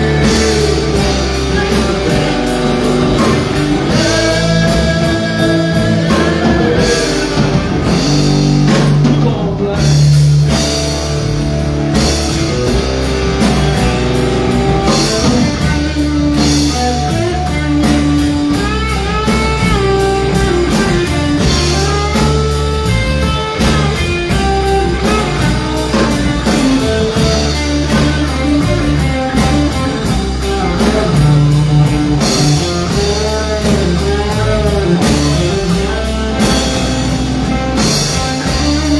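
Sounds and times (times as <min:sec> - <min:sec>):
bass guitar: 0:00.0 - 0:38.9
drum kit: 0:00.0 - 0:38.9
electric guitar with bending notes: 0:00.0 - 0:38.9.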